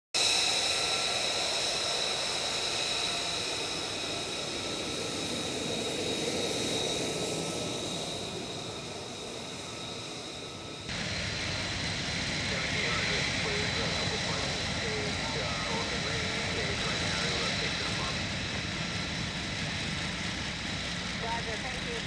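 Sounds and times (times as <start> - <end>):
jet turbine whine: 0.2 - 22.0
rushing jet noise: 0.2 - 22.0.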